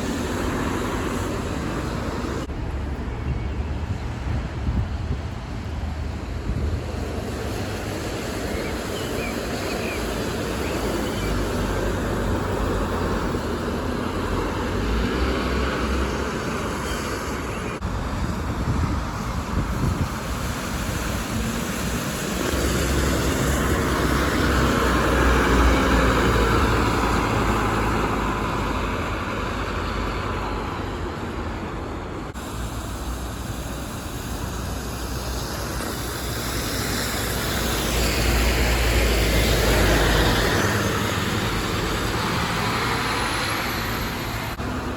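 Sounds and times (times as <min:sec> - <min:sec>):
bus engines rumbling: 0:00.0 - 0:44.9
road traffic: 0:00.0 - 0:44.9.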